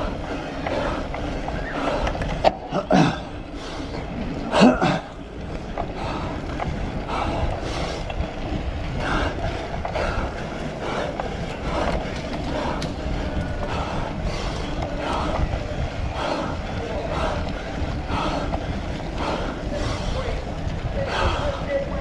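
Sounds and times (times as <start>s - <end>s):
bike rattles and clunks: 0.0s - 22.0s
bike tyres rumbling on rough ground: 0.0s - 22.0s.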